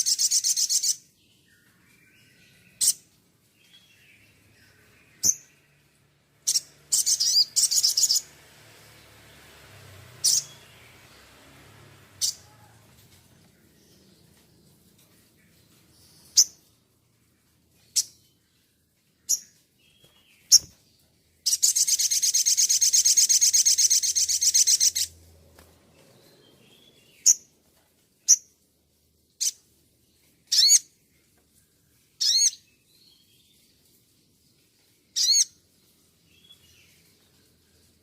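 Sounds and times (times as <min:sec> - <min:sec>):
songbird singing: 0:00.0 - 0:38.0.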